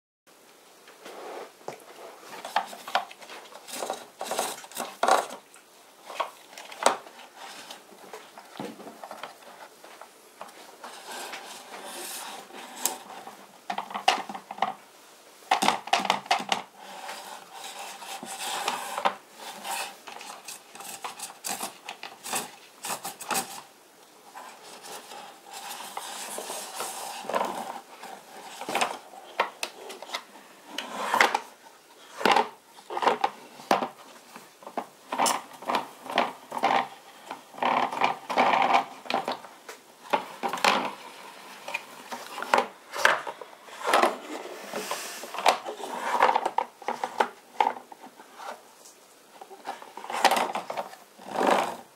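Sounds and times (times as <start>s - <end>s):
plastic rubbing and scraping: 1.0s - 14.8s, 15.5s - 51.9s.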